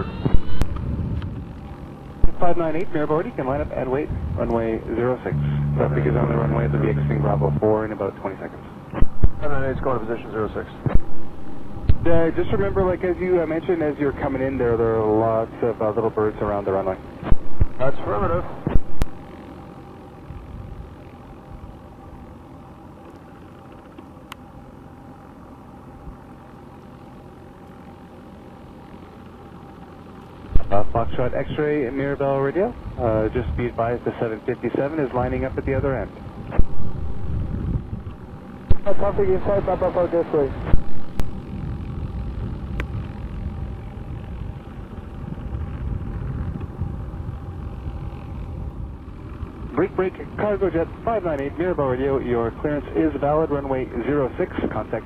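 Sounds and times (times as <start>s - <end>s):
faint constant hum: 0.0s - 55.0s
low engine rumble: 0.0s - 55.0s.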